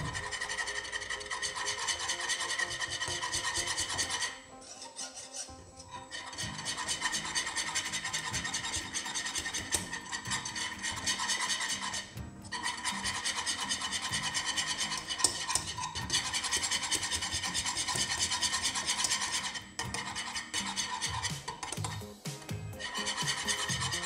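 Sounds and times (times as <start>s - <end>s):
utensil stirring sauce in a pan: 0.3s - 24.0s.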